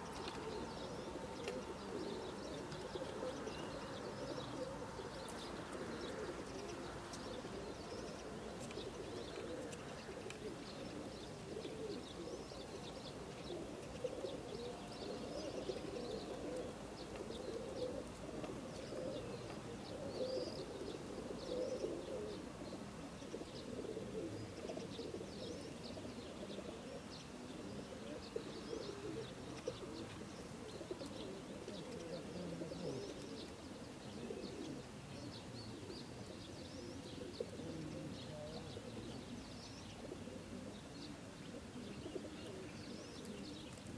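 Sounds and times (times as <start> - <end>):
pigeons cooing: 0.0 - 43.9
small birds chirping: 0.0 - 43.9.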